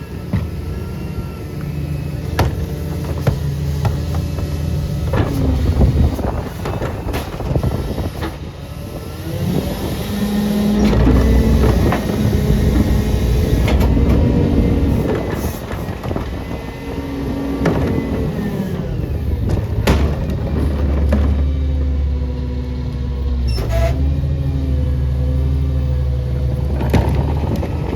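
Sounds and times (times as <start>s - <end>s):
garbage truck engine revving: 0.0s - 27.9s.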